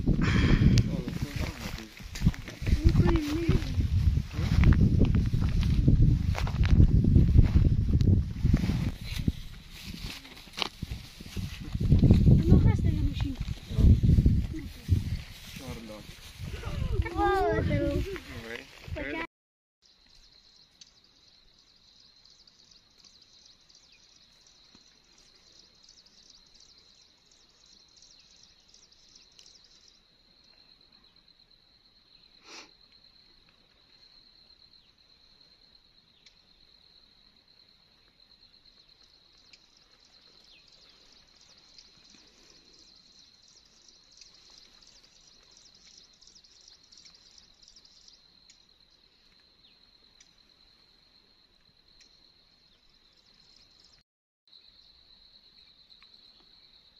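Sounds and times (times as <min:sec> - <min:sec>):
insect chorus buzzing: 0:00.0 - 0:19.2, 0:19.8 - 0:56.9
rapid pulsing insect trill: 0:00.0 - 0:19.2, 0:19.8 - 0:56.9.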